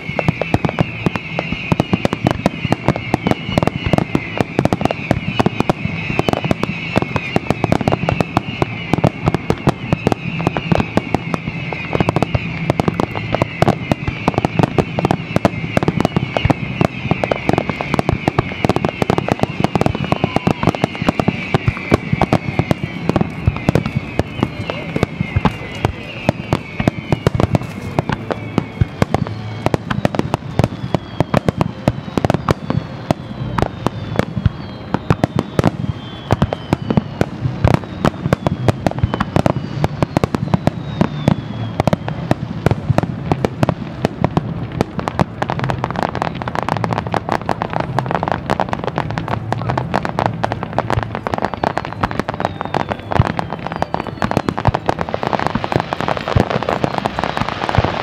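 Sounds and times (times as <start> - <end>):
crackle of sparkling bursts: 0.0 - 58.0
falling firework whistles: 0.0 - 58.0
fireworks bursts and bangs: 0.0 - 58.0.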